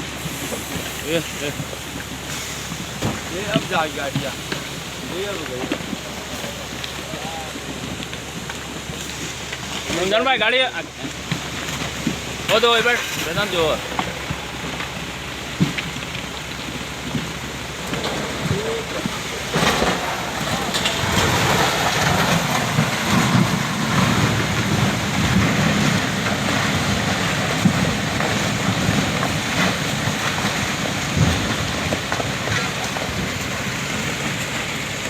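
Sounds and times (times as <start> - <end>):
landslide rumbling roar: 0.0 - 35.0.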